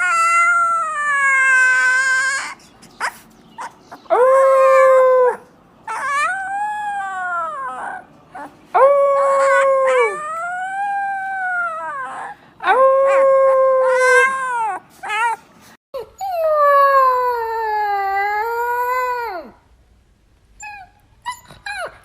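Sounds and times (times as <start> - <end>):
puppy whining howls: 0.0 - 15.4, 16.0 - 19.6, 20.6 - 22.0.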